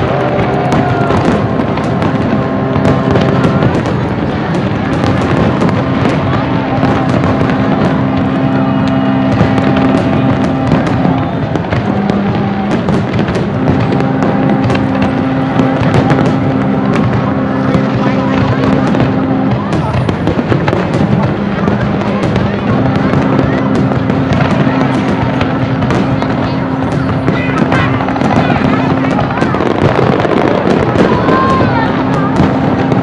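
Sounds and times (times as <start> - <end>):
fireworks bursting and crackling: 0.0 - 33.0
sustained low tones: 0.0 - 33.0.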